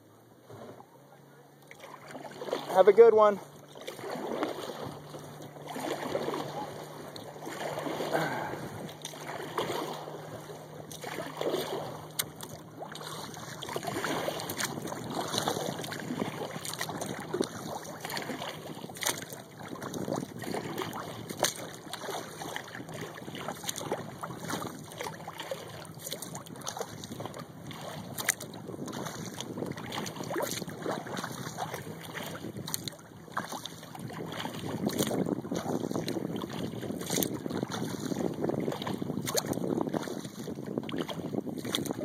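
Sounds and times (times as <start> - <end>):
kayak paddle splashing water: 0.4 - 42.0.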